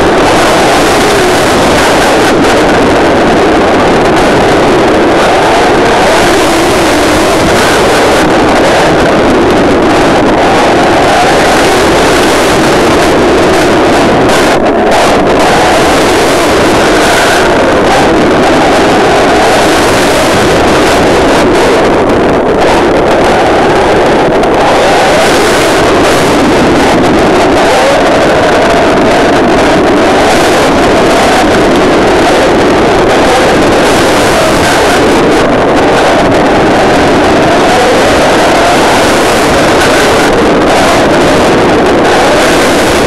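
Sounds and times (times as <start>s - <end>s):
rc car driving noise: 0.0s - 43.0s
wind on microphone: 0.0s - 43.0s.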